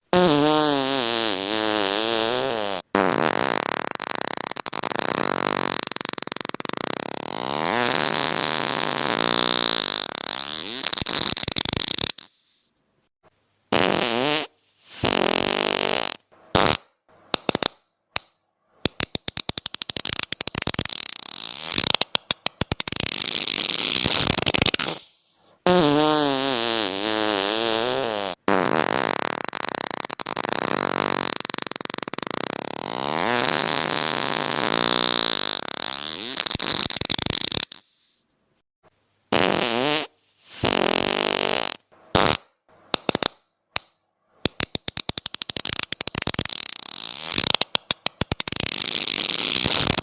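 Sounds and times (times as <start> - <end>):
fart sound effects: 0.1 - 12.6, 13.7 - 17.8, 19.5 - 38.2, 39.3 - 43.4, 45.1 - 50.0.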